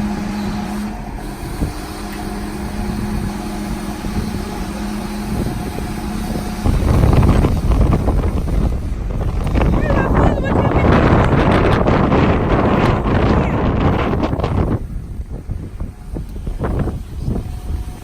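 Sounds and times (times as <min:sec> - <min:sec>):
engine humming: 0:00.0 - 0:18.0
wind on microphone: 0:00.0 - 0:18.0.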